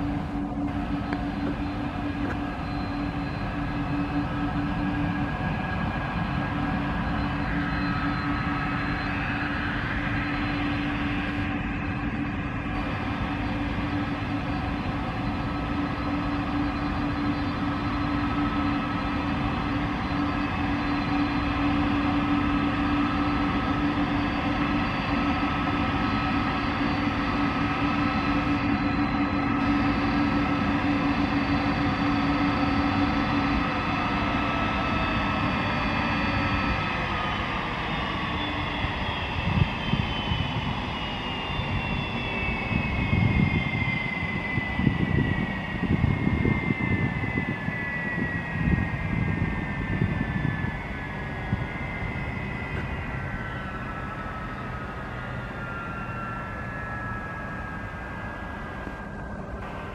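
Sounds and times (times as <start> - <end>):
jet engines humming: 0.0 - 59.9.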